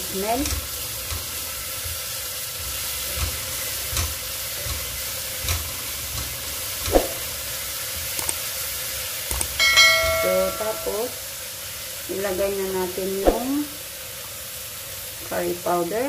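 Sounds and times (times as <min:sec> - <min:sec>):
paste sizzling in a pot: 0:00.0 - 0:16.0.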